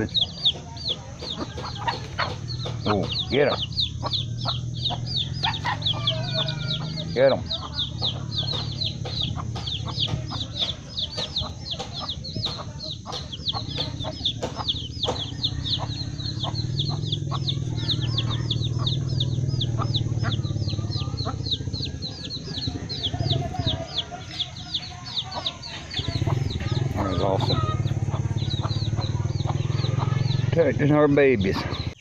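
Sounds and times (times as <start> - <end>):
baby chicks peeping: 0.0 - 32.0
low steady rumble: 1.6 - 32.0.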